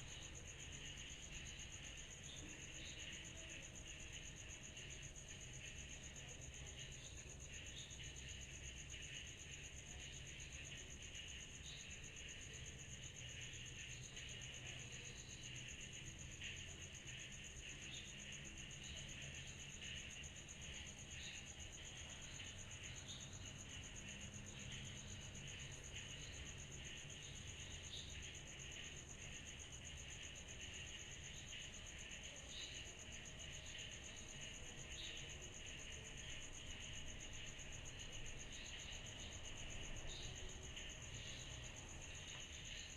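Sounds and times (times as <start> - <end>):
cicadas trilling: 0.0 - 42.9.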